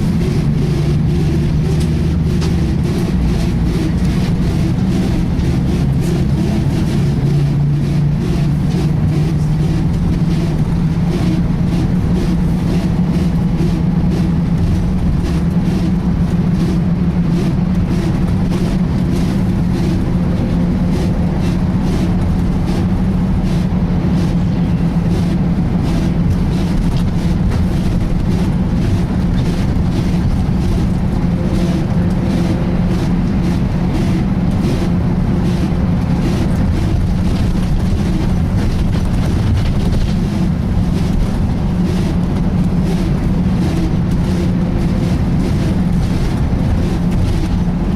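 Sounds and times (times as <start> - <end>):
bus driveline drone: 0.0 - 47.9
road rumble: 0.0 - 47.9.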